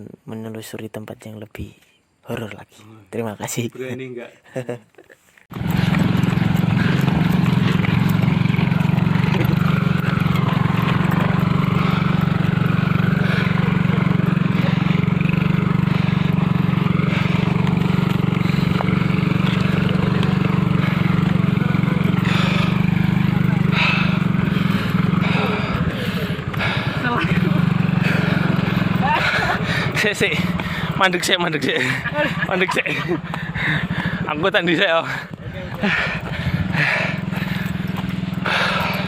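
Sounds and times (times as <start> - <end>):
motorcycle engine running: 5.5 - 39.0.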